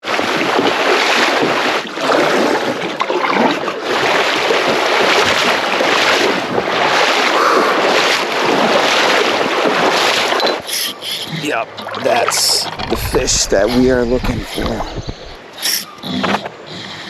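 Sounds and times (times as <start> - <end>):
creek water splashing and rushing: 0.0 - 17.0.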